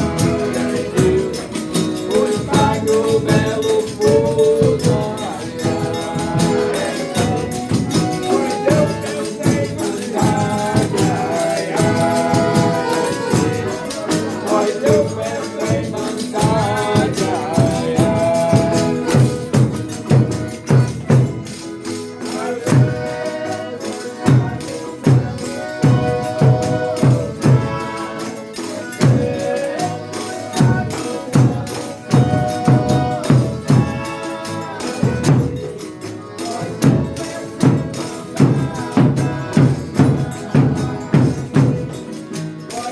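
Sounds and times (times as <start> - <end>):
people singing: 0.0 - 42.9
shaken percussion: 0.0 - 42.9
tambourine: 0.0 - 42.9.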